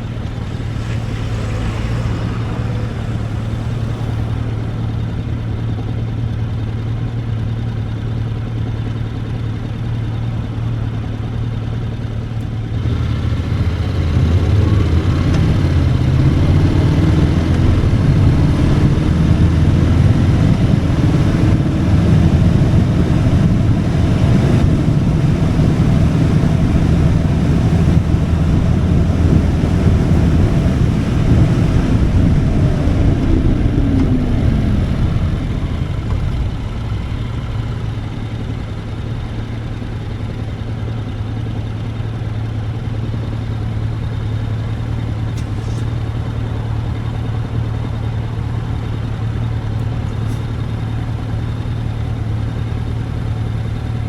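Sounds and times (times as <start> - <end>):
motorcycle engine running and idling: 0.0 - 54.0.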